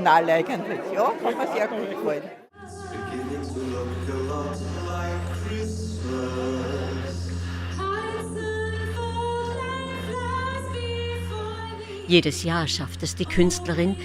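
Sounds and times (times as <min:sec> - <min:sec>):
singing in long held notes: 0:02.5 - 0:14.0
low musical accompaniment: 0:02.6 - 0:14.0.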